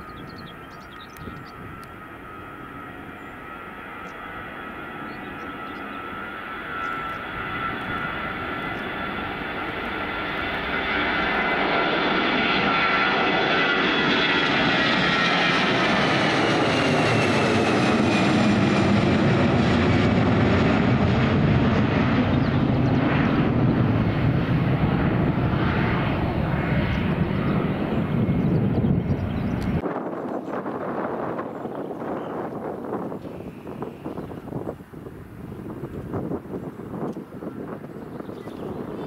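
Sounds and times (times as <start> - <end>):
deep jet rumble: 0.0 - 39.0
jet engine rushing noise: 0.0 - 39.0
jet engines whining: 0.0 - 39.0.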